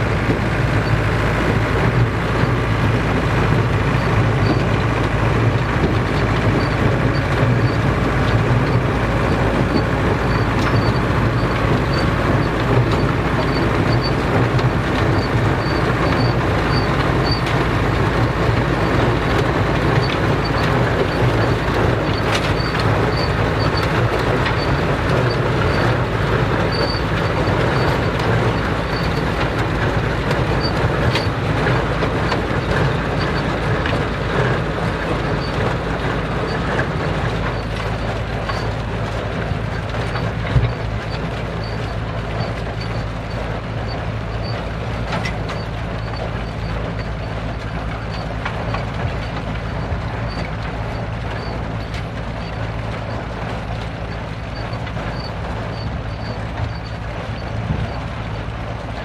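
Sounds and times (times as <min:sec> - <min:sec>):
machinery rattling: 0:00.0 - 0:59.0
tractor engine running: 0:00.0 - 0:59.0.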